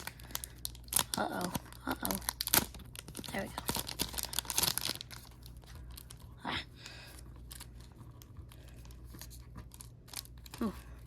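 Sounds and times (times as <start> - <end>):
foil wrapper crinkling and tearing: 0.0 - 11.0
rustling of wrapper and cards: 0.0 - 11.0.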